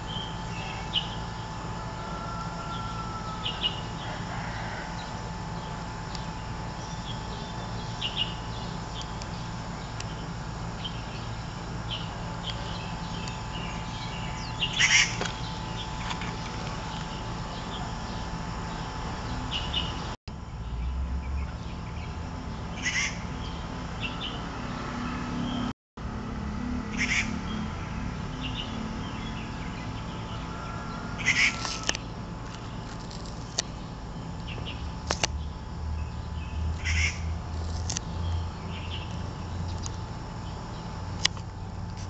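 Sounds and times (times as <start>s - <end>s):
birds chirping: 0.0s - 25.7s, 26.9s - 41.7s
steady low hum: 0.0s - 42.0s.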